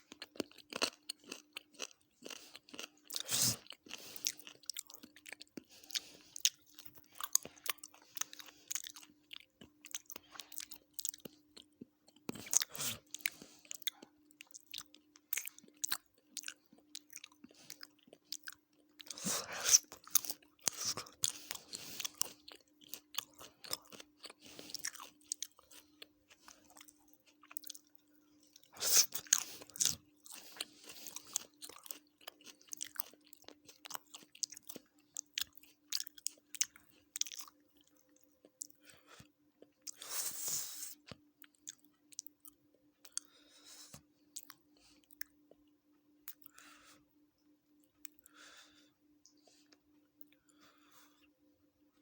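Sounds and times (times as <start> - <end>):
chewing with mouth clicks: 0.0 - 46.8.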